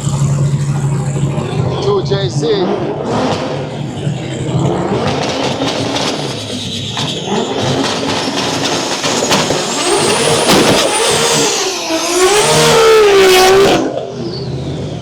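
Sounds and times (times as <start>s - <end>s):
drag racing car engine revving: 0.0s - 15.0s.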